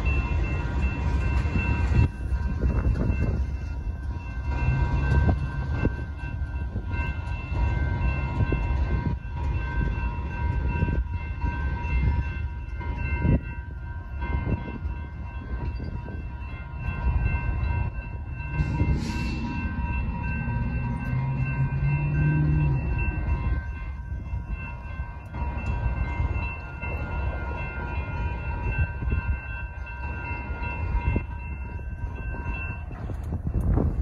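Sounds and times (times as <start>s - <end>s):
diesel freight train running: 0.0s - 34.0s
railroad crossing bells ringing: 0.0s - 34.0s
train wheel clicks: 0.0s - 34.0s.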